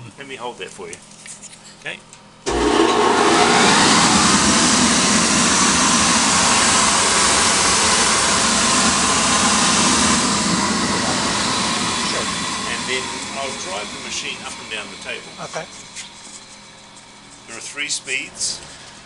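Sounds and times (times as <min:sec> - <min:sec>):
blower rush of air: 0:02.5 - 0:19.0.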